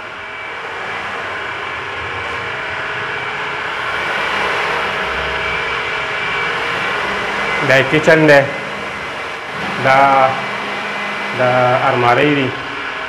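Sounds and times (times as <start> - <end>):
faint hum: 0.0 - 13.0
mechanical whirring: 0.0 - 13.0.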